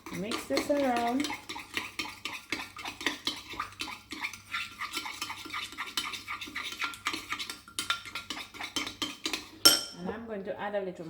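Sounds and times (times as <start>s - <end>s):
utensil clinking against bowl: 0.0s - 10.0s.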